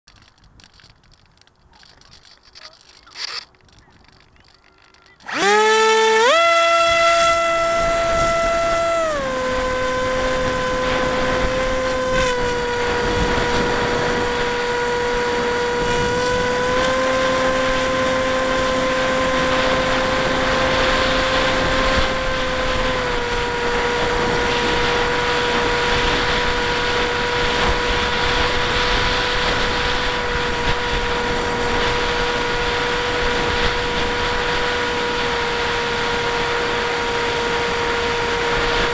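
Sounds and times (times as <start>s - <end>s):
electric motor and propeller whining: 0.1s - 38.9s.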